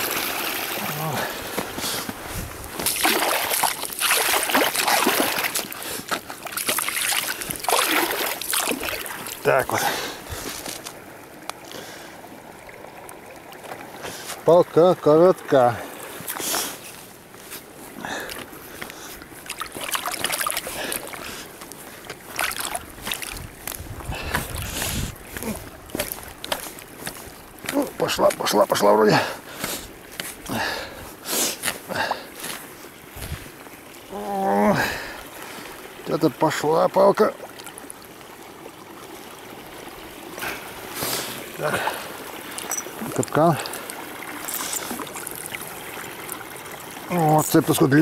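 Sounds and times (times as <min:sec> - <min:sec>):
water splashing and sloshing: 0:00.0 - 0:48.0.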